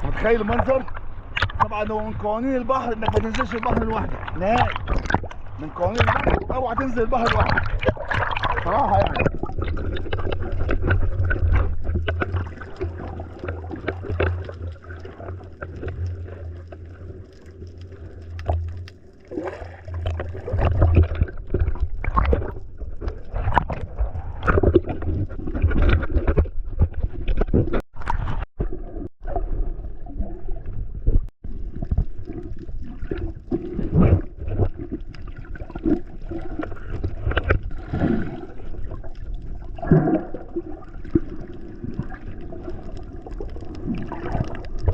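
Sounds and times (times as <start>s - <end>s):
sea water sloshing and splashing: 0.0s - 44.9s.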